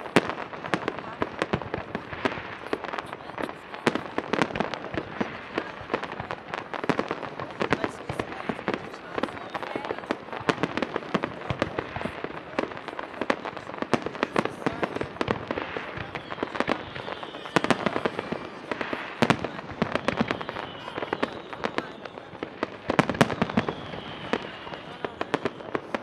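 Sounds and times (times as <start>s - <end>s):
fireworks bangs and crackles: 0.0s - 26.0s
fireworks whistling: 0.0s - 26.0s.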